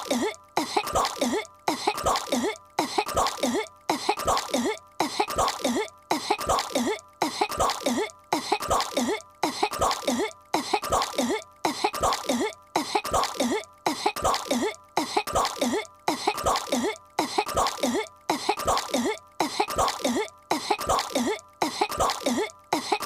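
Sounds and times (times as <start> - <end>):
cartoon child hacking coughs: 0.0 - 23.0.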